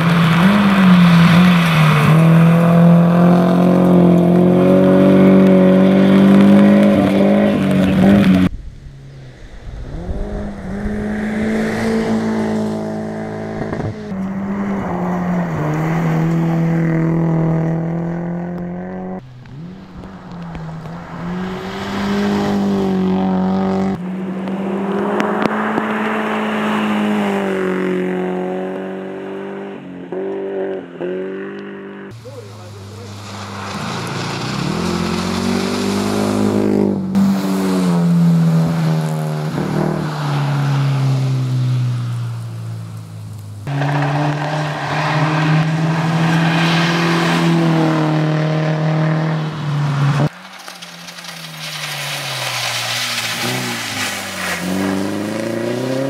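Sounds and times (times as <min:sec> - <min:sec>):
rally car engine at high revs: 0:00.0 - 0:08.5, 0:09.8 - 0:42.5, 0:43.3 - 0:50.3, 0:52.5 - 0:56.0.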